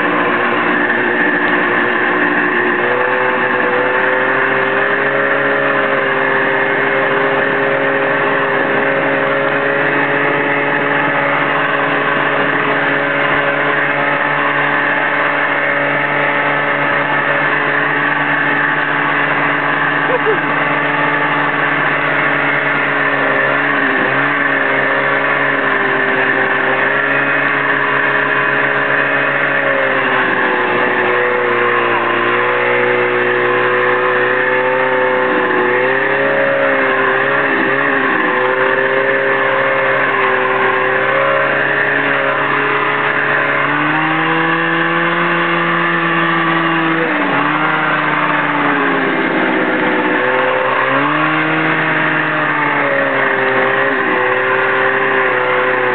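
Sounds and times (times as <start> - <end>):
snowmobile engine running: 0.0 - 55.9.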